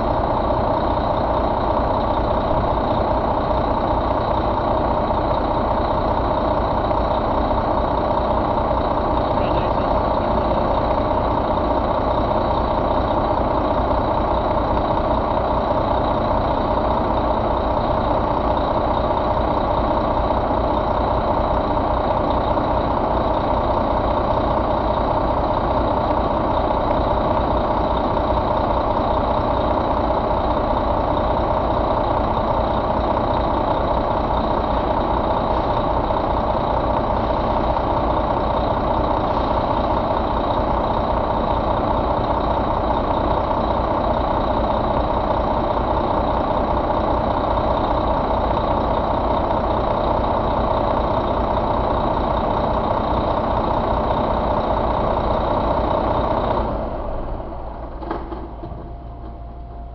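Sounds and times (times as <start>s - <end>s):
truck diesel engine idling: 0.0s - 59.9s.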